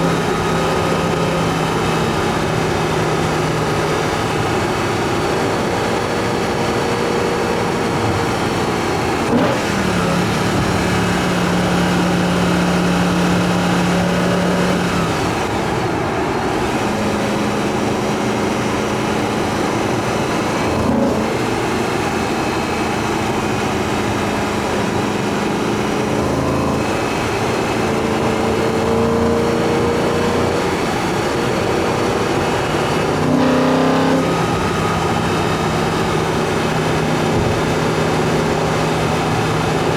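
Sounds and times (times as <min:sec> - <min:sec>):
car engine intake roar: 0:00.0 - 0:39.9.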